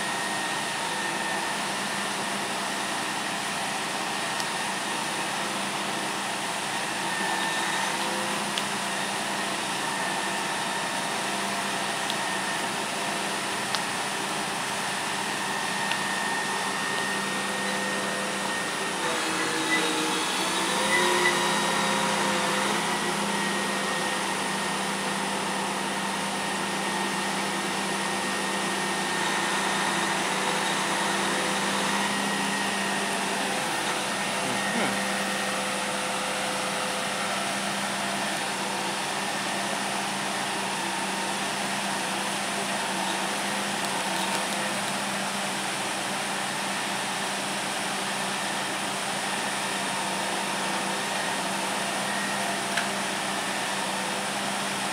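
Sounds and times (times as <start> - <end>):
diesel engine humming: 0.0 - 46.4.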